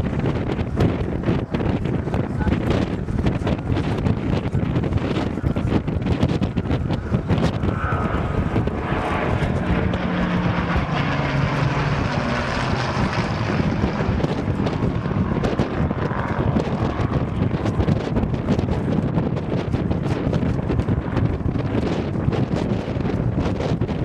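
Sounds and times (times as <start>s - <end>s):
aircraft engine flying past: 0.0s - 24.0s
wind buffeting microphone: 0.0s - 24.0s.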